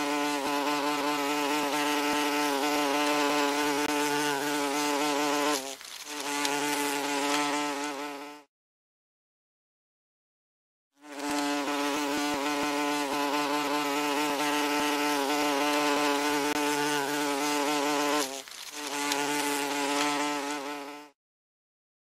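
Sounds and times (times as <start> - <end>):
wasp buzzing: 0.0 - 8.5, 11.0 - 21.2.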